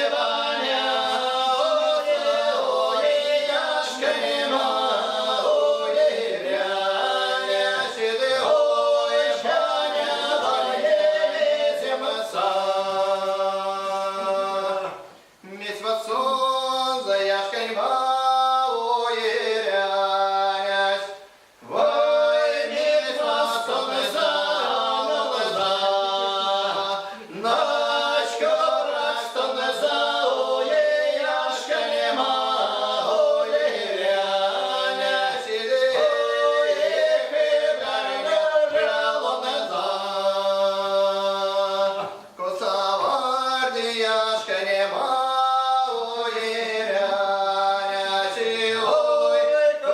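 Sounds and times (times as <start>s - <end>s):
a cappella folk singing in harmony: 0.0s - 49.9s.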